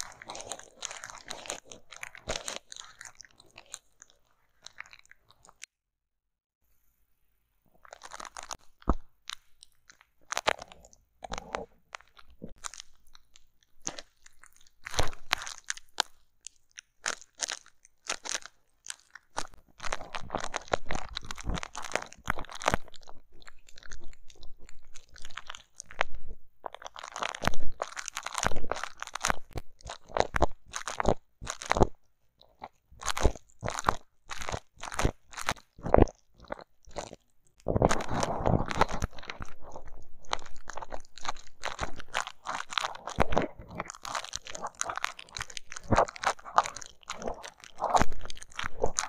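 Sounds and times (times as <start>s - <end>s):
tweezers crunching and crackling: 0.0s - 5.7s, 7.8s - 49.0s.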